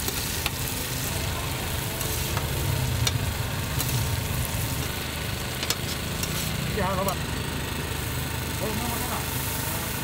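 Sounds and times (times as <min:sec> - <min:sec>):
potatoes sizzling in a pan: 0:00.0 - 0:10.0
steady low hum: 0:00.0 - 0:10.0.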